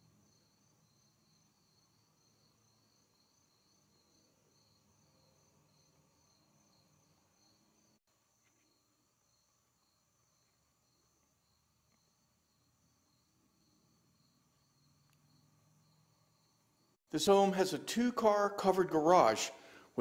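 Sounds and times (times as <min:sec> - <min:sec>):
faint insect chorus: 0:00.0 - 0:17.2.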